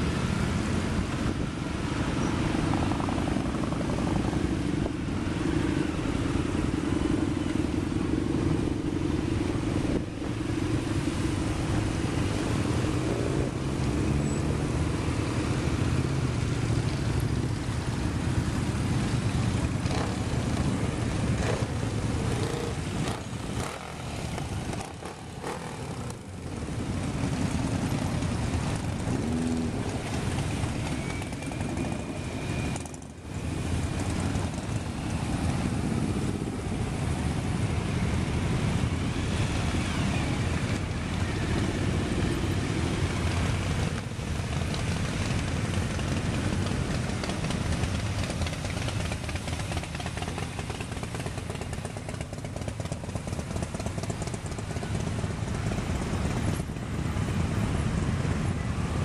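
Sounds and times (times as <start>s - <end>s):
motorcycles rumbling past: 0.0s - 59.0s.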